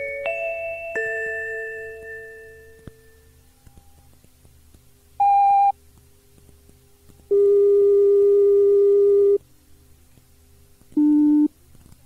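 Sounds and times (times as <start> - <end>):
faint tape hum and ticks: 0.0 - 12.0.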